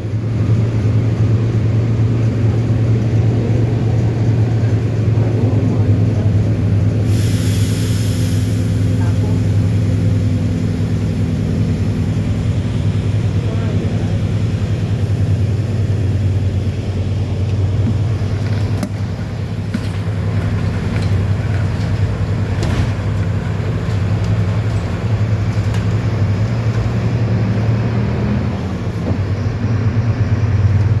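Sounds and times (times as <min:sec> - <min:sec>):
bus body rattling: 0:00.0 - 0:31.0
diesel bus engine humming: 0:00.0 - 0:31.0.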